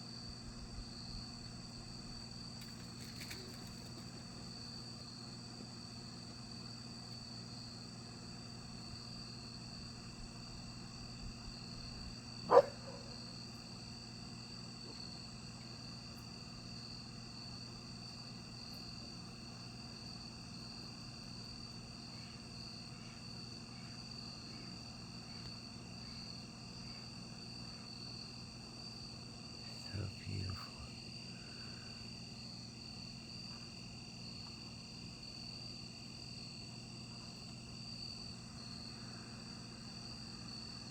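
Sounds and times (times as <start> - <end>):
insect chorus trilling: 0.0 - 40.9.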